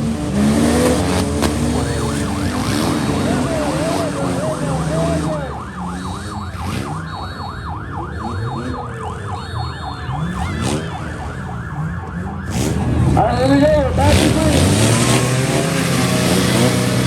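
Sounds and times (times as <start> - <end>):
vehicle engines revving: 0.0 - 17.0
yelp siren: 0.1 - 15.1.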